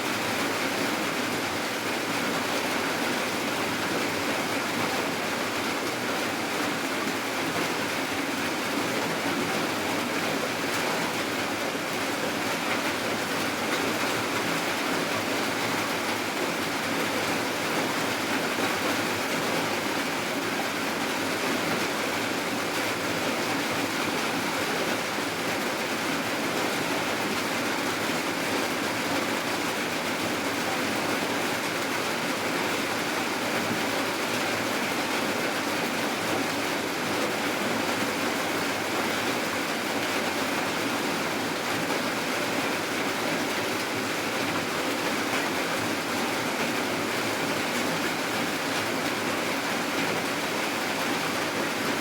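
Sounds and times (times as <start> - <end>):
steady rainfall: 0.0 - 52.0.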